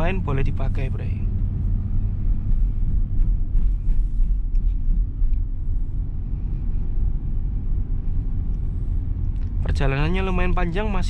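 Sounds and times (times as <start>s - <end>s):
car engine droning: 0.0s - 11.0s
road noise: 0.0s - 11.0s.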